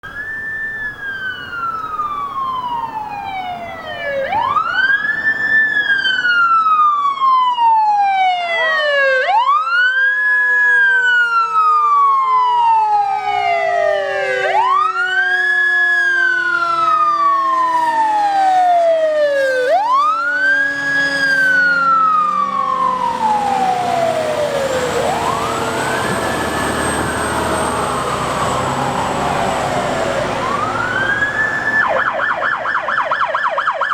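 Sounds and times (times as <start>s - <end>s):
vehicle engine and tyre noise: 0.0s - 7.1s, 13.3s - 33.9s
police sirens wailing: 0.0s - 33.9s.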